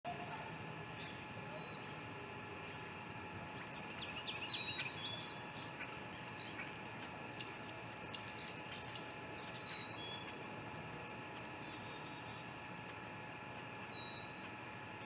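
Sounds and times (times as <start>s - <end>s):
faint background hum: 0.1s - 15.0s.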